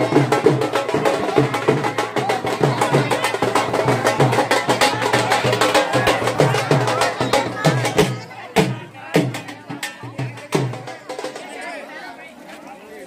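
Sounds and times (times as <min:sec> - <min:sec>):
drummers playing: 0:00.0 - 0:11.6.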